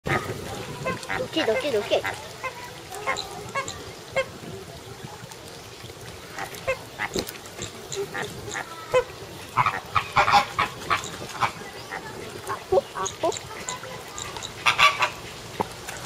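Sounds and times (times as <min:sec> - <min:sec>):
flamingos honking: 0:00.0 - 0:04.9, 0:06.2 - 0:16.0.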